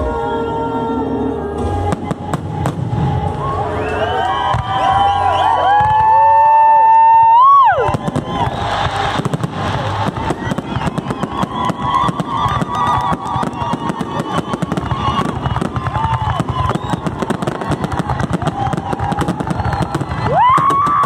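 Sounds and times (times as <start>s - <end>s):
fireworks bursting and crackling: 1.6s - 21.0s.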